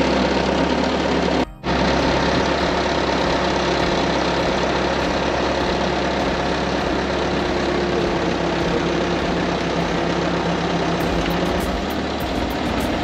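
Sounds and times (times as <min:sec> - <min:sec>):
loader engine running: 0:00.0 - 0:13.0.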